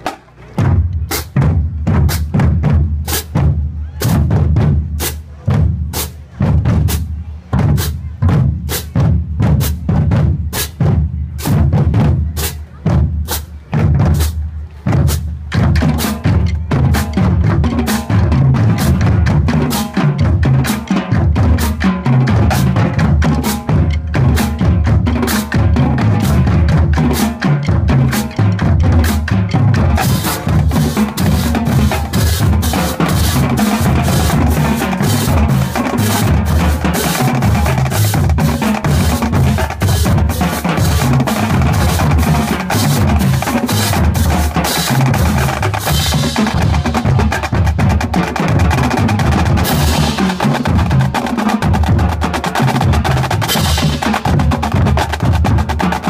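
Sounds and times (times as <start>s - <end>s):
bass drums: 0.0s - 56.0s.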